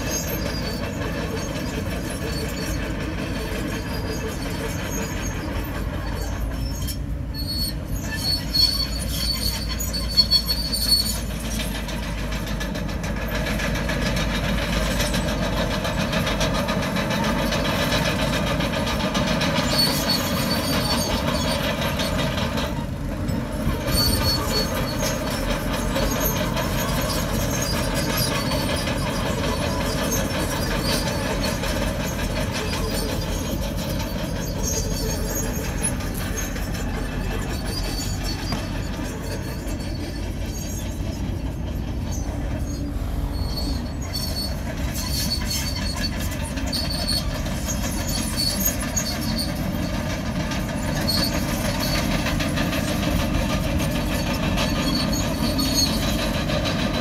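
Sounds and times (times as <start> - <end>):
bulldozer engine and tracks: 0.0 - 57.0.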